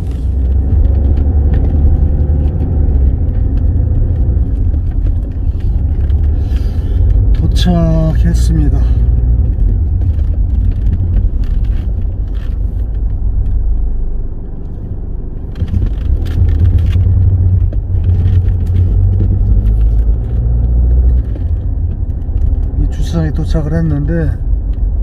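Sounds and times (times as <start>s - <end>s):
car engine rumbling from inside: 0.0s - 25.0s
tyres on road: 0.0s - 25.0s.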